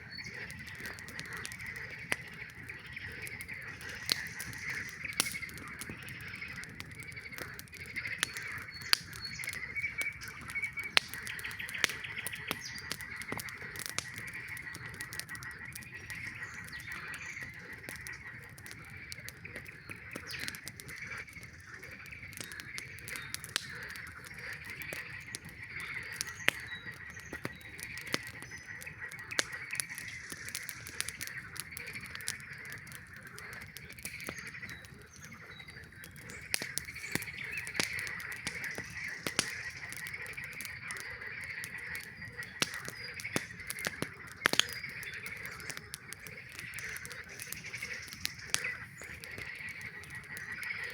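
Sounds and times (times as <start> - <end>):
campfire crackling and popping: 0.0 - 50.9
frogs calling: 0.0 - 50.9.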